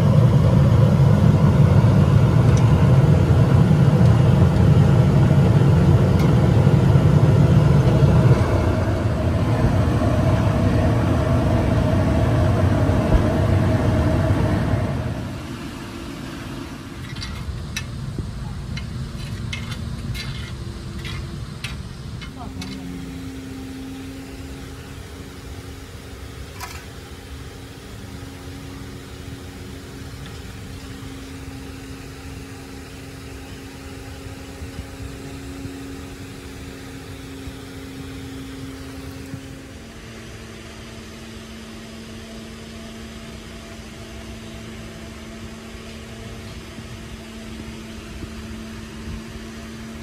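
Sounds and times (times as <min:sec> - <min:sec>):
workshop machinery humming: 0:00.0 - 0:50.0.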